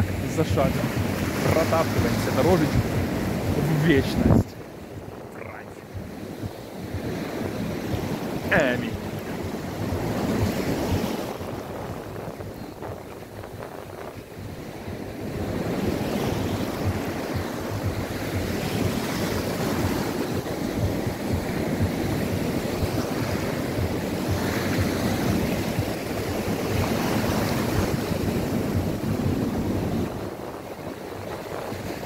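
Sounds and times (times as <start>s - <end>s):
sea waves breaking on shore: 0.0s - 32.0s
wind buffeting microphone: 0.0s - 32.0s.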